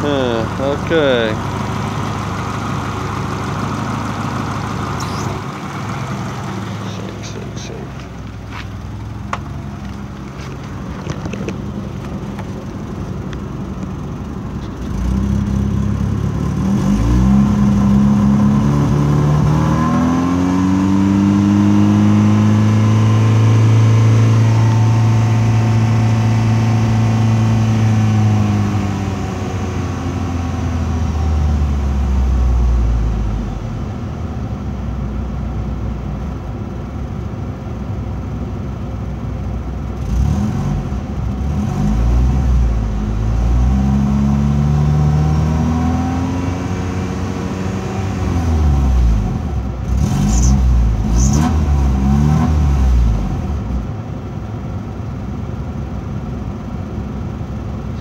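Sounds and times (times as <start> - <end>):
car engine revving: 0.0 - 33.4, 40.0 - 53.8.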